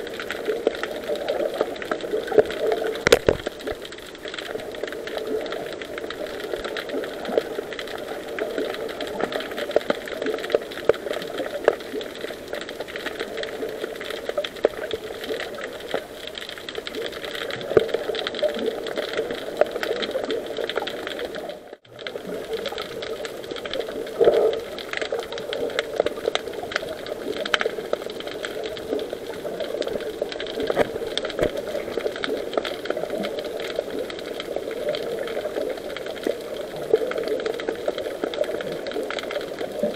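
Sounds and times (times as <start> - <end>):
faint crackling and clicks: 0.0 - 39.9.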